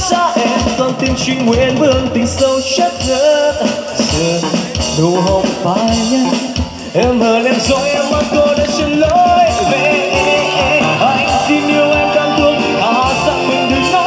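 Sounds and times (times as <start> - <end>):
live band playing: 0.0 - 14.0
man singing pop song: 0.0 - 14.0.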